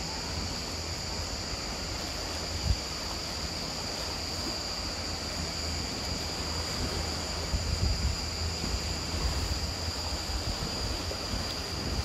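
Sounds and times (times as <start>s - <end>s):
steady high-pitched buzz: 0.0s - 12.0s
wind rumbling on microphone: 0.0s - 12.0s.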